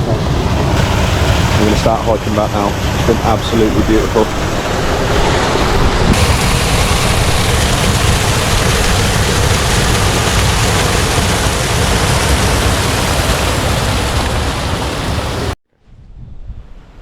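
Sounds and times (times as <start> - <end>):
small waterfall rushing: 0.0 - 15.6.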